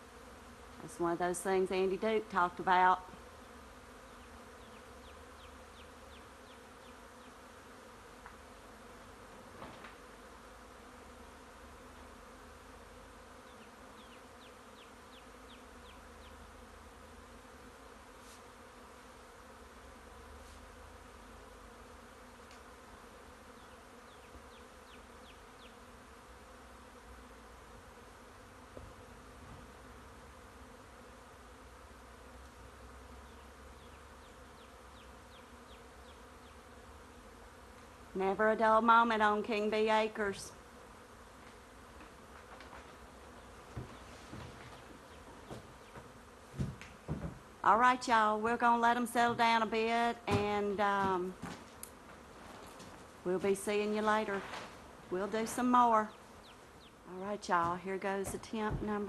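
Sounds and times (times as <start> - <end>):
bees buzzing: 0.0 - 59.0.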